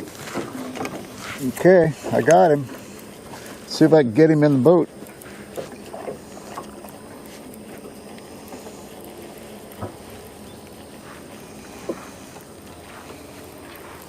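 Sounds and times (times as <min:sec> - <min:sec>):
low hum: 0:00.0 - 0:14.0
water noise: 0:00.0 - 0:14.0.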